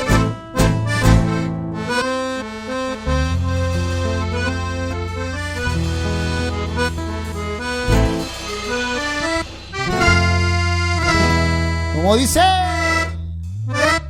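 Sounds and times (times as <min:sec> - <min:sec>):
accordion playing chords: 0:00.0 - 0:14.0
deep bass line: 0:00.0 - 0:14.0.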